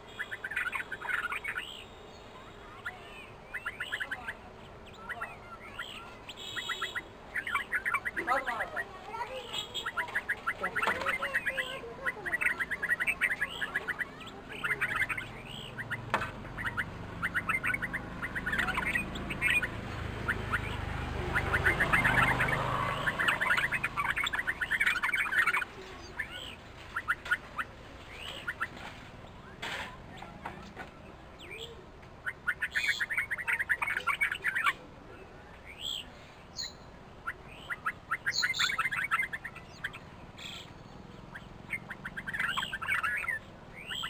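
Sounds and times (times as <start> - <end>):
birds chattering calls: 0.0 - 44.0.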